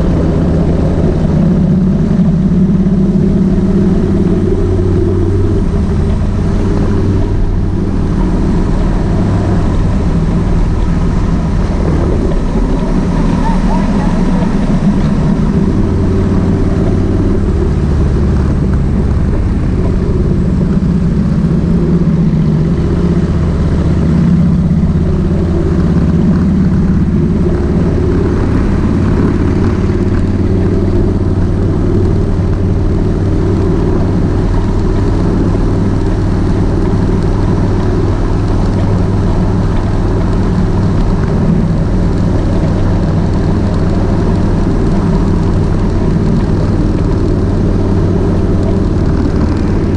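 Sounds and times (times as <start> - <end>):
motorcycle engine running steadily: 0.0 - 49.9.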